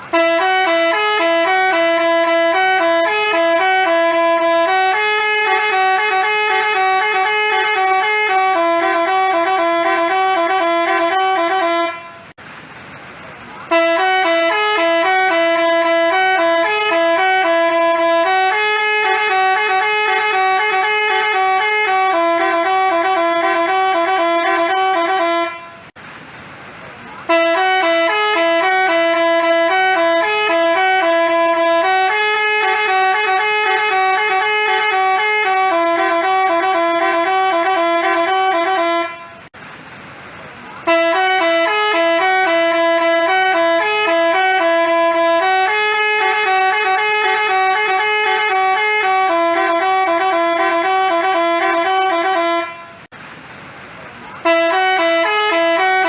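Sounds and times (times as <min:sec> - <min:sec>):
musical horn melody: 0:00.0 - 0:12.4, 0:13.7 - 0:26.0, 0:27.3 - 0:39.5, 0:40.8 - 0:53.1, 0:54.4 - 0:56.0.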